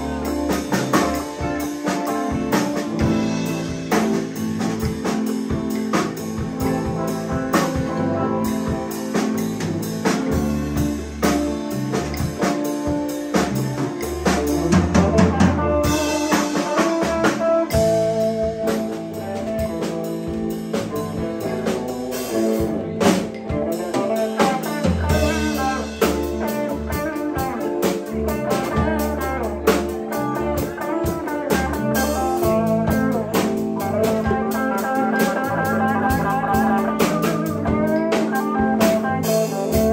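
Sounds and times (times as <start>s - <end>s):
electric guitar: 0.0s - 39.9s
live blues band playing: 0.0s - 39.9s.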